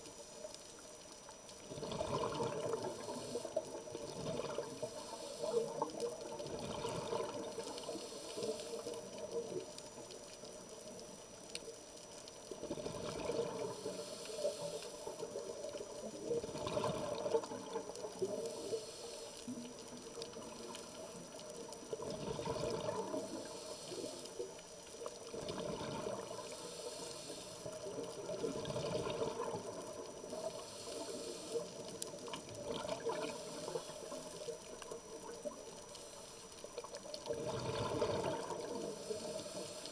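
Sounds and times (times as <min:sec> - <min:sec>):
regulator hiss on inhale: 0:00.0 - 0:39.9
rush of bubbles: 0:01.6 - 0:09.8, 0:12.5 - 0:18.8, 0:19.4 - 0:39.9.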